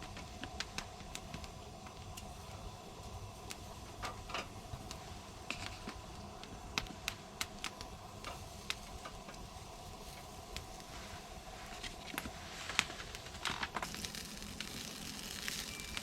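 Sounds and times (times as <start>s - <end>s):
light clicks and crackles: 0.0s - 16.0s.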